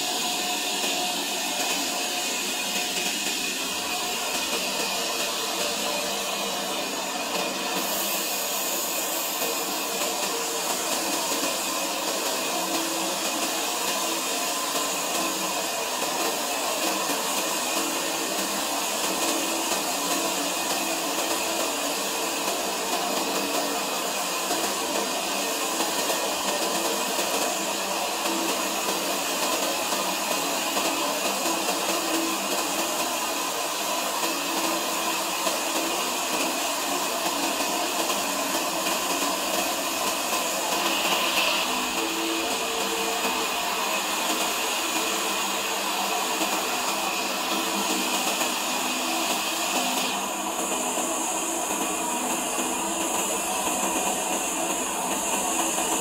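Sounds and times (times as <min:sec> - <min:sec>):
sawmill saw whirring: 0:00.0 - 0:56.0.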